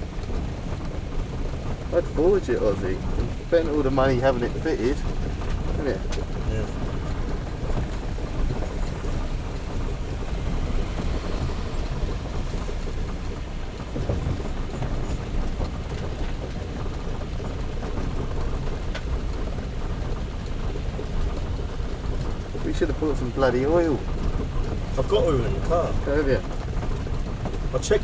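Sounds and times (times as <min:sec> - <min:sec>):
road and wind noise in car: 0:00.0 - 0:28.0.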